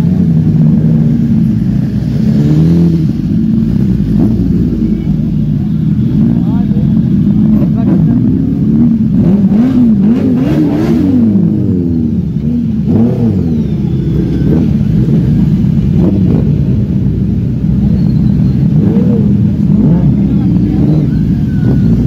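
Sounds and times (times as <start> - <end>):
motorcycle engine revving: 0.0 - 22.0
motorcycle engines idling: 0.0 - 22.0.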